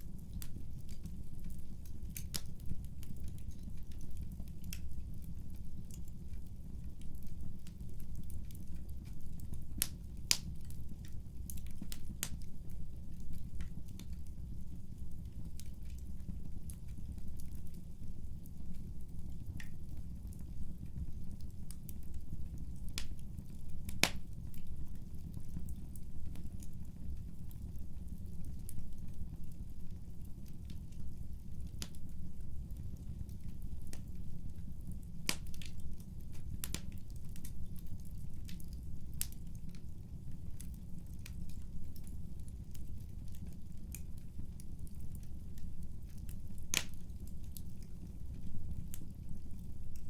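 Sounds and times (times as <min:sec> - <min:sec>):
wood fire crackling and popping: 0:00.0 - 0:50.0.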